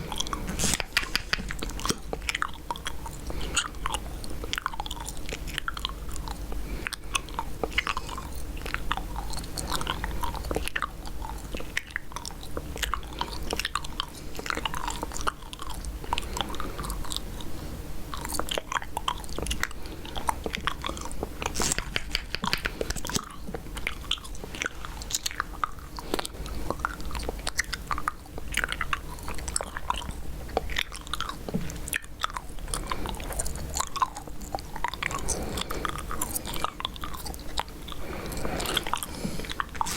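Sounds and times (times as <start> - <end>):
low steady hum: 0.0 - 39.9
wet gum chewing: 0.0 - 39.9.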